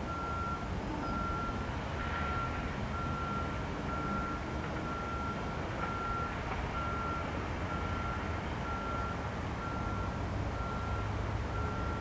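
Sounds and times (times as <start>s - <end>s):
vehicle reversing alarm beeping: 0.0s - 12.0s.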